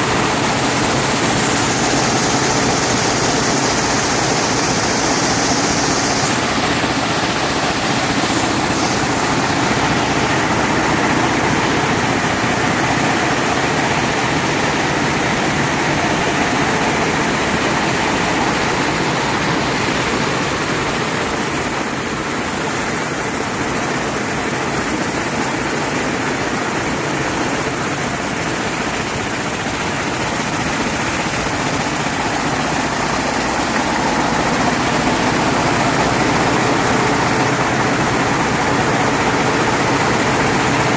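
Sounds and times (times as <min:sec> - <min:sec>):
weaving looms running: 0:00.0 - 0:40.9.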